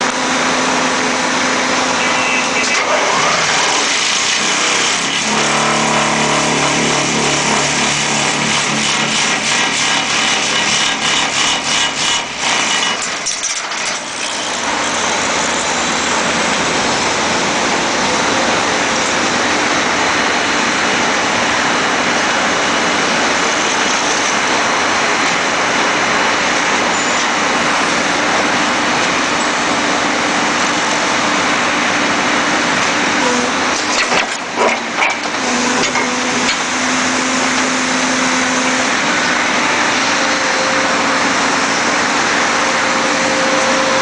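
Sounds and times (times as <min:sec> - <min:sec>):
vibratory pile hammer running: 0:00.0 - 0:44.0.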